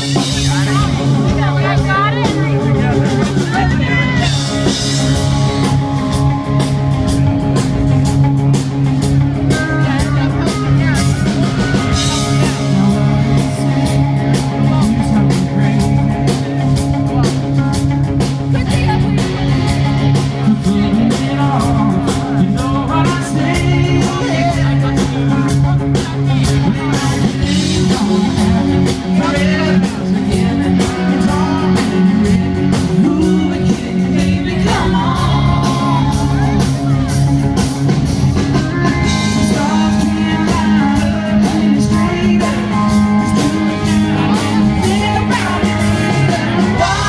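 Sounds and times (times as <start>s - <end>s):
lead vocal singing: 0.0s - 6.9s, 9.4s - 16.6s, 18.6s - 37.5s, 38.4s - 47.0s
drums: 0.0s - 47.0s
electric guitars: 0.0s - 47.0s.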